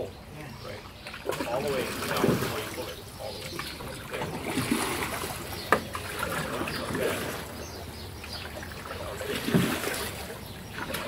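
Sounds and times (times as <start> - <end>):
paddle splashing water: 0.8 - 11.0.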